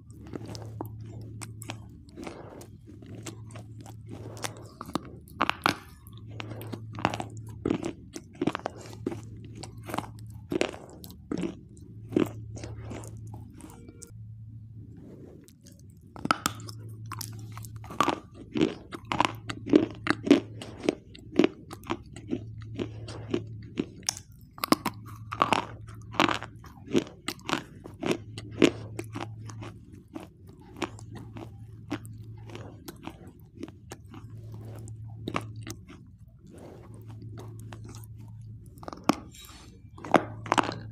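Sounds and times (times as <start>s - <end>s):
person crunching and chewing: 0.0s - 14.2s, 15.1s - 40.9s.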